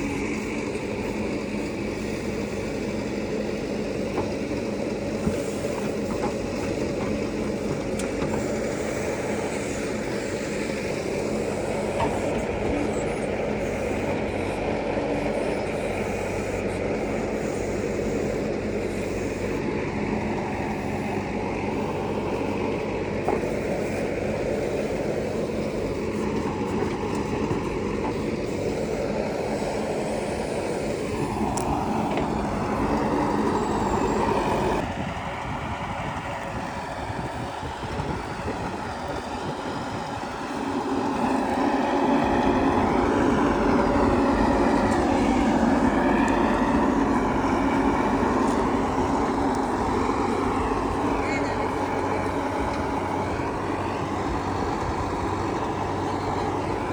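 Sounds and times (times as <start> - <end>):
diesel engine revving: 0.0 - 56.9.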